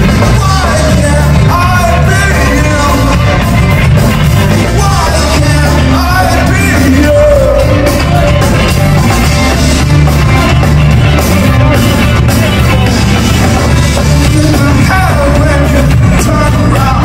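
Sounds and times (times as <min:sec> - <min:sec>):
person singing: 0:00.0 - 0:17.0
rock band playing live: 0:00.0 - 0:17.0.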